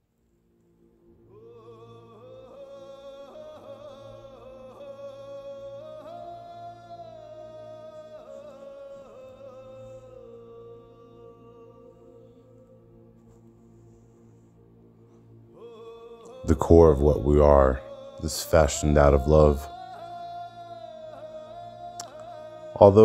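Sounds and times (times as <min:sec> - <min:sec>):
low drone: 0:01.1 - 0:23.0
high wordless singing voice: 0:01.3 - 0:12.8, 0:15.6 - 0:23.0.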